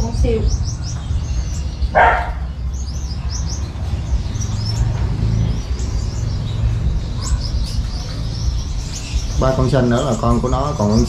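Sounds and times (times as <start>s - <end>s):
finches chirping: 0.0s - 11.0s.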